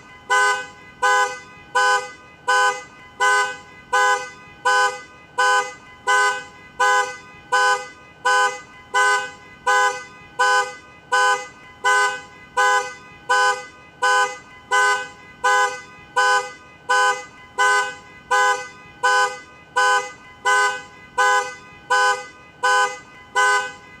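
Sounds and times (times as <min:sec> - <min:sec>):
car horn honking: 0:00.0 - 0:24.0.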